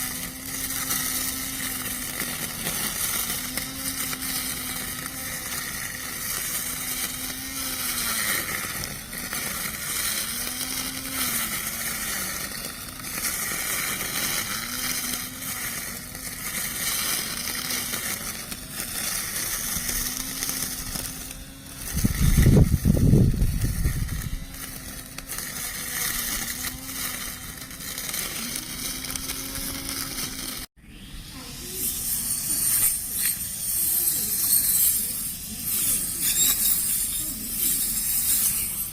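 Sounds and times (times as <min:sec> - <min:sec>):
electric lawn mower motor whine: 0:00.0 - 0:38.9
hissing sound: 0:00.0 - 0:38.9.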